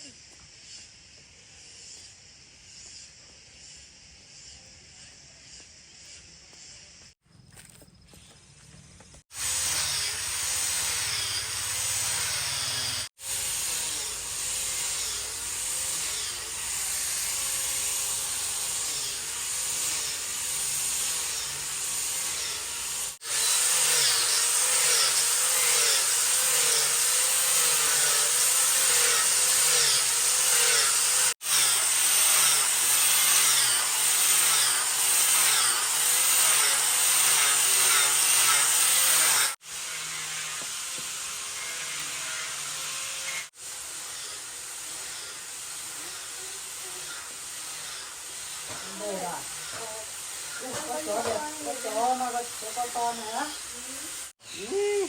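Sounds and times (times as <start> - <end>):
wood being sawn: 9.3 - 55.0.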